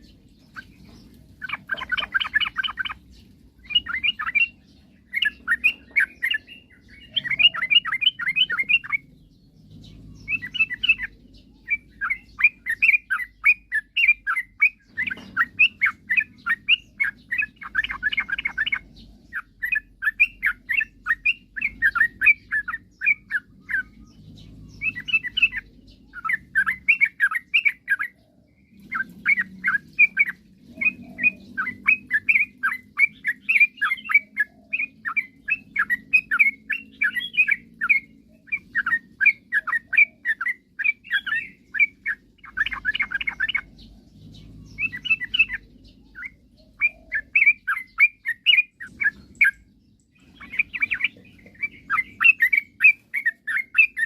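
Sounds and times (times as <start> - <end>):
bulbul singing bubbly chirps: 0.0 - 54.0.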